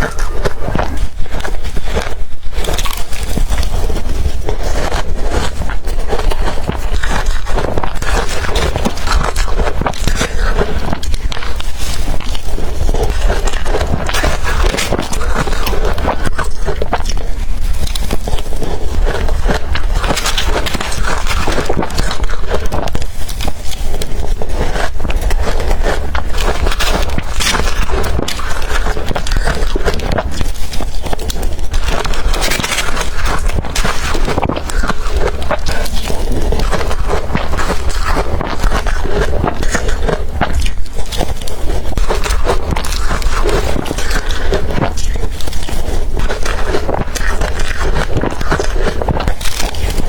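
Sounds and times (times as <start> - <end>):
crunching ice between teeth: 0.0 - 50.0.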